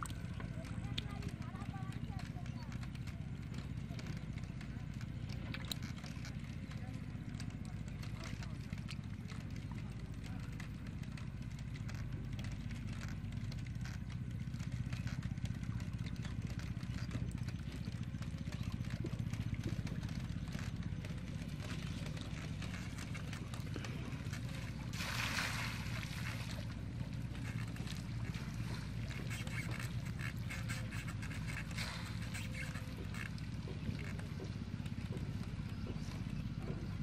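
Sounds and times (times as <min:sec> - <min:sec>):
low engine drone: 0:00.0 - 0:37.0.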